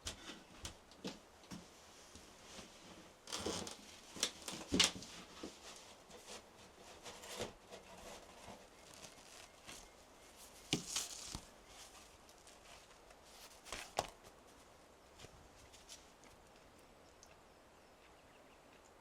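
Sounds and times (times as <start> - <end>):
rustling: 0.1 - 17.2.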